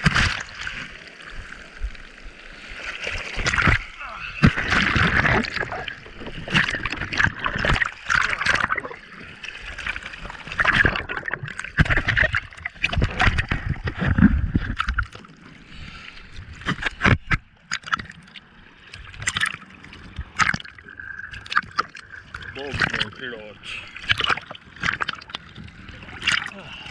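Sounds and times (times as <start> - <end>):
sea water splashing on surfboard: 0.0 - 26.9.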